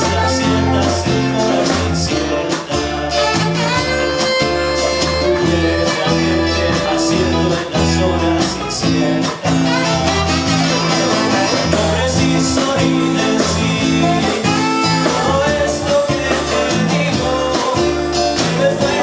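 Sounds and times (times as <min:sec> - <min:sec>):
bass line: 0:00.0 - 0:19.0
saxophone melody: 0:00.0 - 0:19.0
strummed acoustic guitar: 0:00.0 - 0:19.0.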